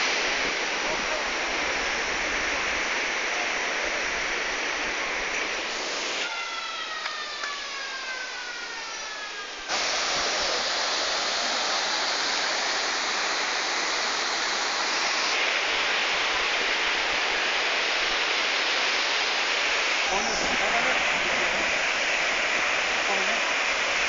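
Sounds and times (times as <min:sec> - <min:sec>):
mountain river rushing: 0:00.0 - 0:24.0.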